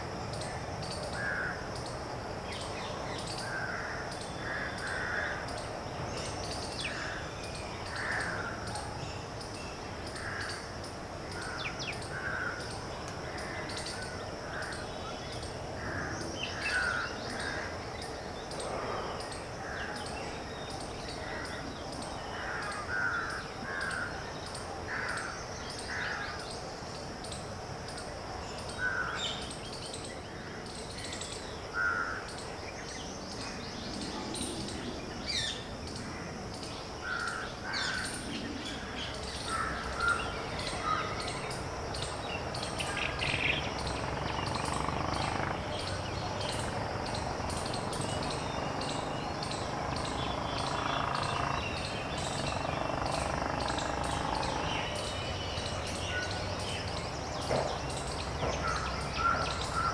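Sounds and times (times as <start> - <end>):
bird calls: 0.0 - 59.9
steady high hiss: 0.0 - 59.9.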